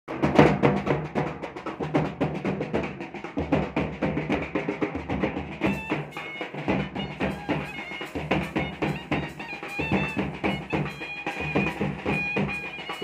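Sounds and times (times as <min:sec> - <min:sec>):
bass drum: 0:00.1 - 0:13.0
snare drums: 0:00.1 - 0:13.0.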